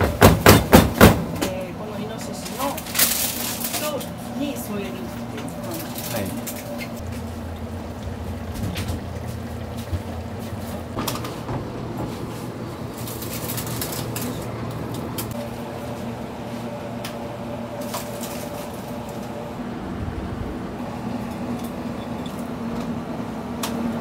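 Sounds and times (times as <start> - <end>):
kitchen equipment hum: 0.0 - 24.0.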